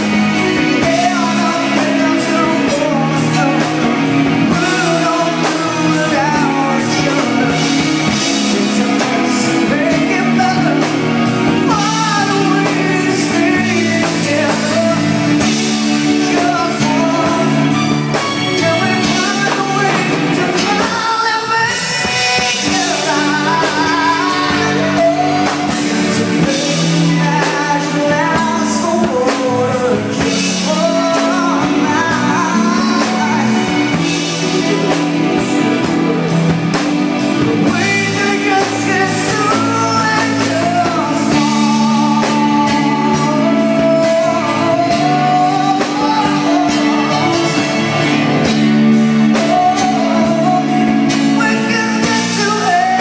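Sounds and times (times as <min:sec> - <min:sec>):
live band playing: 0:00.0 - 0:53.0
person singing: 0:00.0 - 0:53.0.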